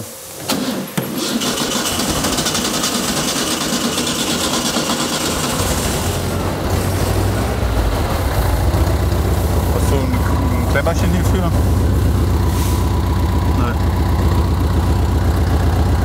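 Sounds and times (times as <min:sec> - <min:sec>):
loud hissing rush: 0:00.0 - 0:15.3
car engine running: 0:01.9 - 0:16.0.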